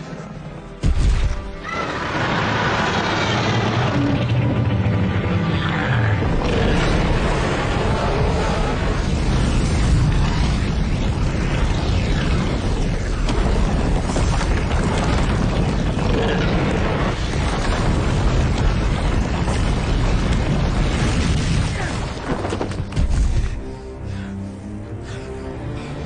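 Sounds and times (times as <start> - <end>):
rushing flame: 0.0 - 23.9
deep rumble: 1.9 - 24.3.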